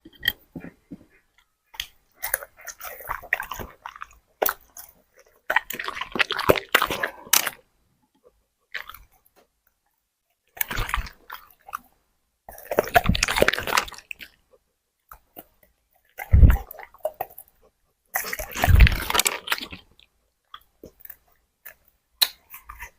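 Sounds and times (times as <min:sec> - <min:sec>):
dog chewing and crunching food: 0:00.0 - 0:09.5, 0:10.5 - 0:11.9, 0:12.5 - 0:22.9.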